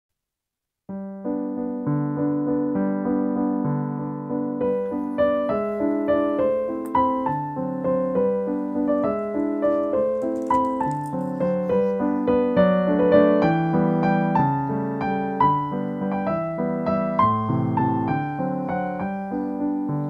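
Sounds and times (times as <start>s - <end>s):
piano music: 0.9s - 20.0s.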